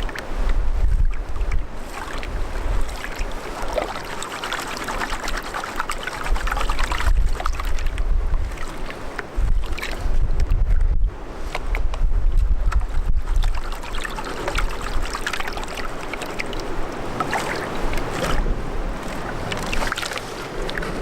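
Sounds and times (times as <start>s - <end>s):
stream water rushing: 0.0s - 10.3s, 11.2s - 21.0s
wind buffeting microphone: 0.0s - 21.0s.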